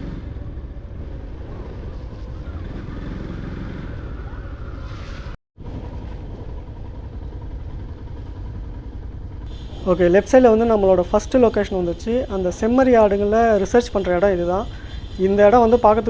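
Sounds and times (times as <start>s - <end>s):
motorcycle engine: 0.0s - 4.9s, 5.6s - 16.0s.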